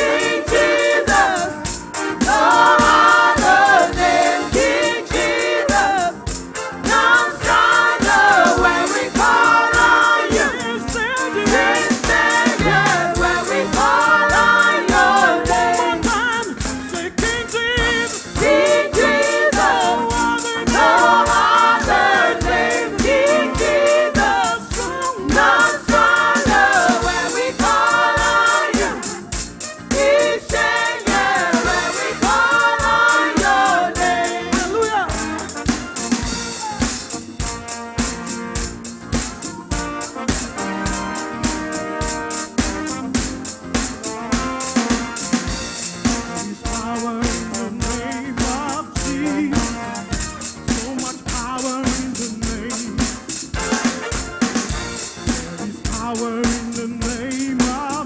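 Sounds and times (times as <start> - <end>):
band with steady drum beat: 0.0 - 58.0
choir singing gospel: 0.0 - 58.0.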